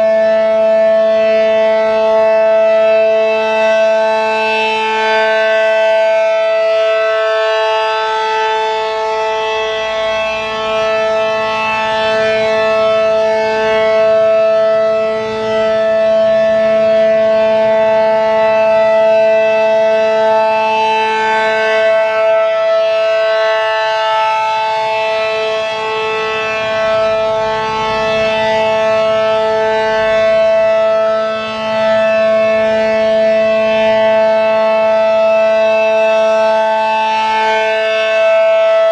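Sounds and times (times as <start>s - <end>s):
electromechanical siren chord: 0.0s - 38.9s.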